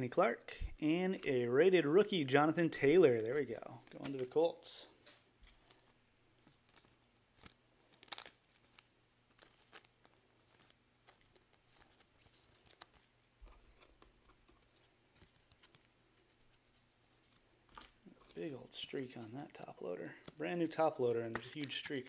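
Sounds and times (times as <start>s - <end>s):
handling trading card and plastic holder: 2.8s - 22.0s.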